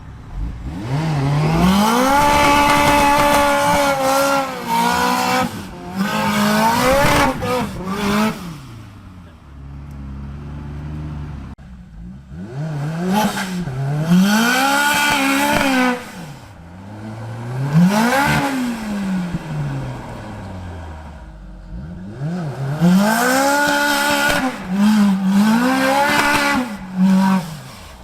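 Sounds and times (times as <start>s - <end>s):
engine revving hard: 0.3s - 9.0s, 12.3s - 20.4s, 21.6s - 28.0s.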